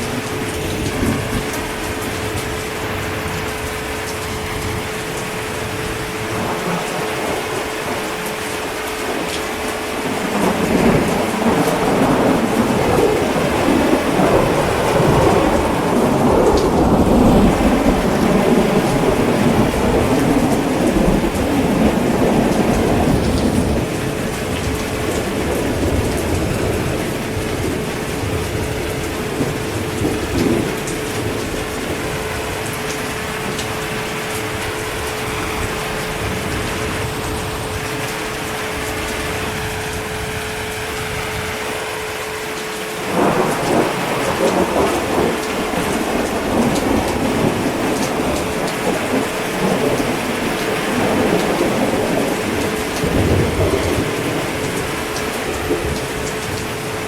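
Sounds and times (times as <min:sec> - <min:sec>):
heavy rain falling: 0:00.0 - 0:57.0
rolling thunder rumble: 0:00.0 - 0:57.0.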